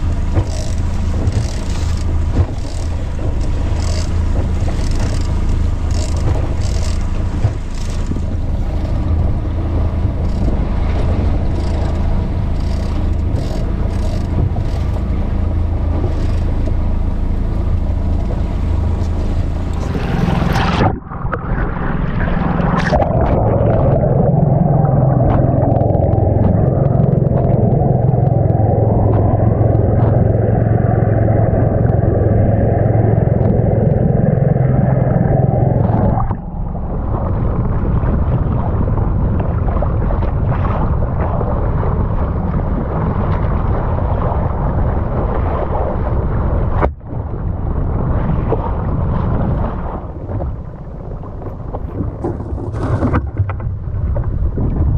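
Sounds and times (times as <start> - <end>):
muffled underwater rumble and gurgle: 0.0 - 54.9
rushing water at sea surface: 0.0 - 54.9
water splashing against boat: 0.0 - 54.9
wind: 0.0 - 54.9.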